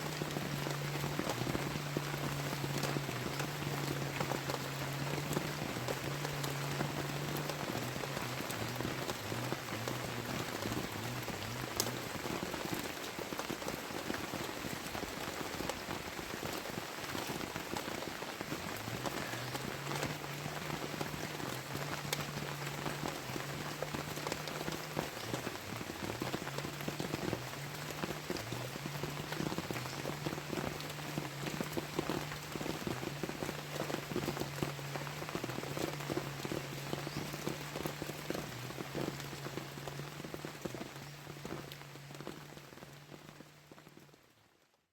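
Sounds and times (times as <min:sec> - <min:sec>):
heavy rain falling: 0:00.0 - 0:44.7.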